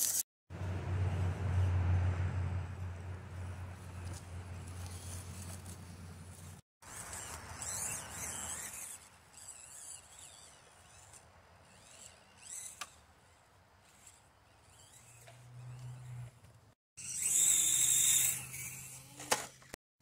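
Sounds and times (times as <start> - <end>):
small motor and gears whining: 3.4 - 19.8.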